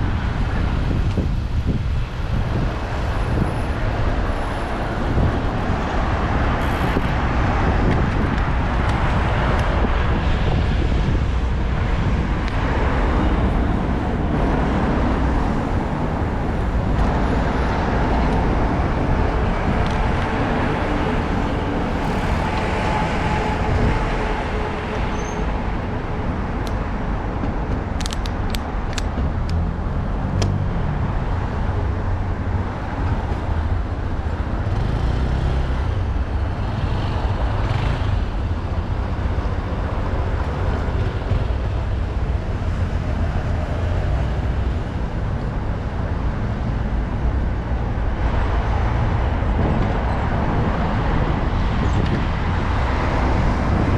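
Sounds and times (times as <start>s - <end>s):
road traffic: 0.0s - 53.9s
wind rumble on microphone: 0.0s - 53.9s.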